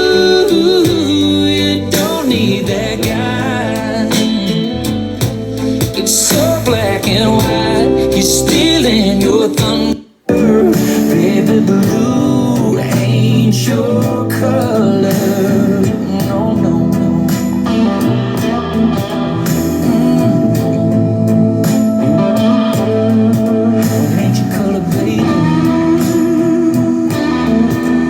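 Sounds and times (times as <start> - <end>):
bending guitar lead: 0.0 - 28.0
slow country-pop song: 0.0 - 28.0.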